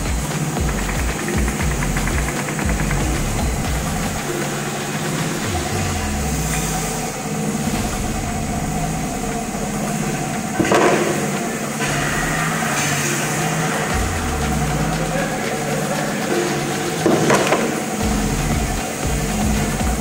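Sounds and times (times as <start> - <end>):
saw and conveyor humming: 0.0 - 20.0.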